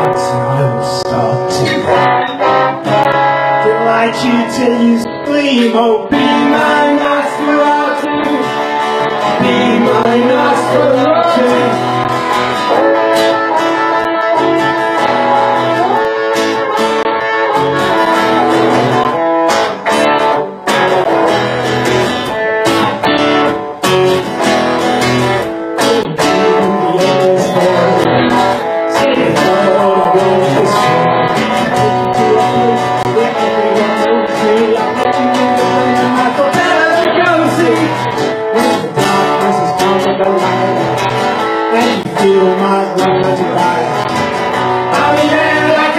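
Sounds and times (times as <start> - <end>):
man singing: 0.0 - 19.2, 25.7 - 45.9
electric guitar: 0.0 - 45.9
strummed acoustic guitar: 0.0 - 45.9.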